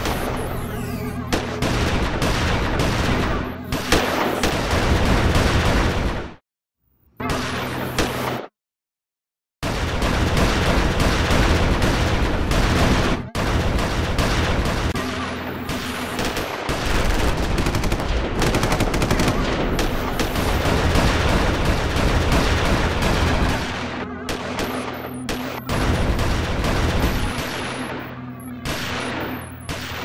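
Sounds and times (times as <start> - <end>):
machine-gun fire and gunshots: 0.0 - 6.4, 7.2 - 8.5, 9.6 - 30.0.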